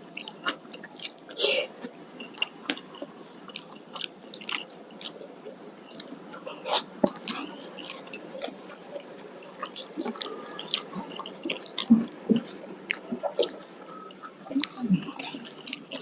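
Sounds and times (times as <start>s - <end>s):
chewing and biting food: 0.2s - 5.2s, 5.9s - 16.0s.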